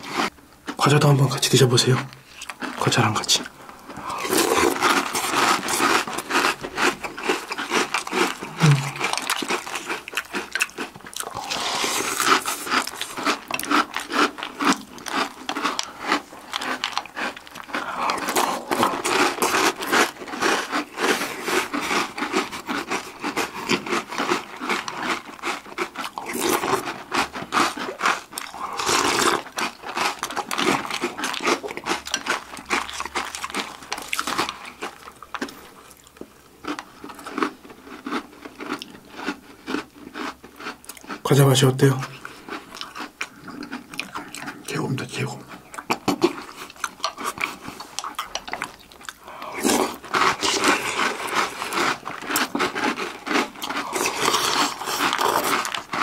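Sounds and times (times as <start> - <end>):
crunching and chewing cereal: 0.0 - 56.0.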